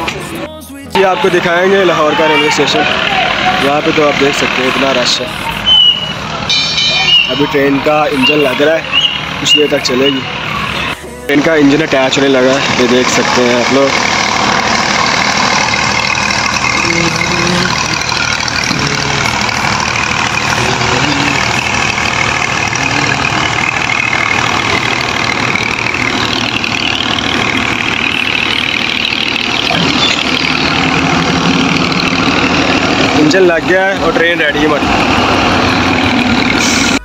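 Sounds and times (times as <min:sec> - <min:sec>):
diesel locomotive engine running: 0:00.0 - 0:37.0.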